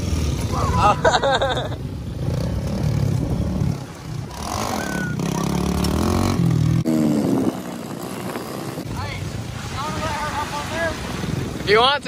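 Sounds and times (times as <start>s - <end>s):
off-road vehicle engine revving: 0.0s - 11.7s.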